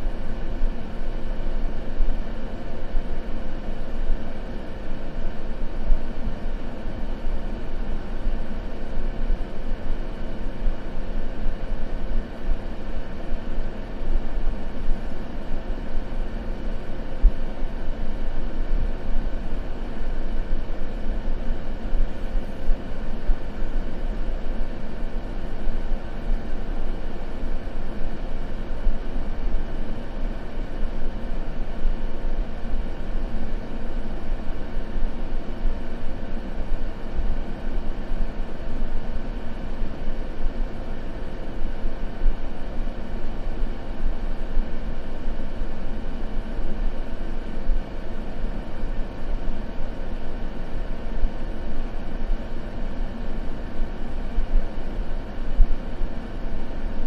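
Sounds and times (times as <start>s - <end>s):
white noise rushing hiss: 0.0s - 57.0s.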